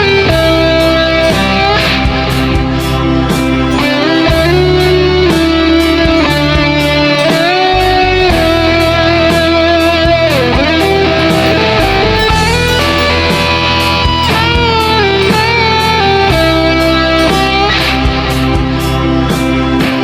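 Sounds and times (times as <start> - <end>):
bass and drums backing: 0.0 - 20.0
electric guitar blues lead: 0.0 - 20.0.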